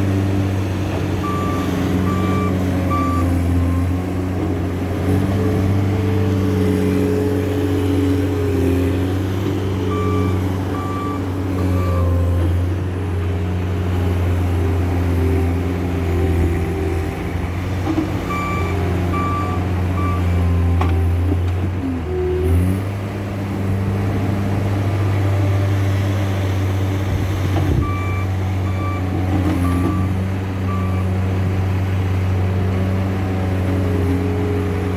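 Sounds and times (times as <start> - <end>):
diesel engine under load: 0.0 - 34.9.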